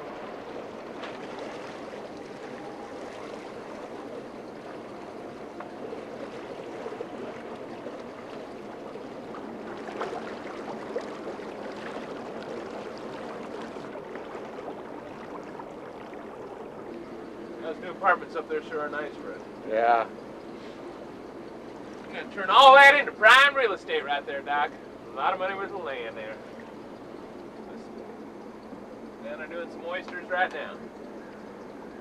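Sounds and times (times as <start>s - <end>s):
water gurgling and lapping: 0.0s - 32.0s.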